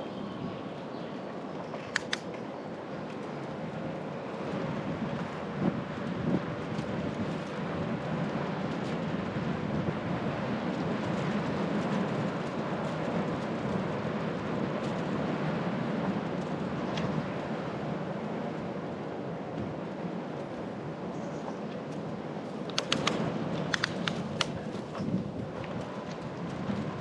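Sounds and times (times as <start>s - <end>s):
tyres rolling on road: 0.8s - 27.0s.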